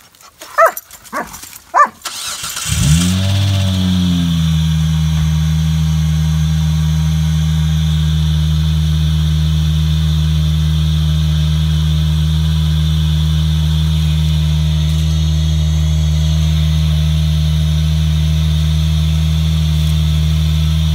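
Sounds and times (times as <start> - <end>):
car engine idling: 1.8 - 20.9.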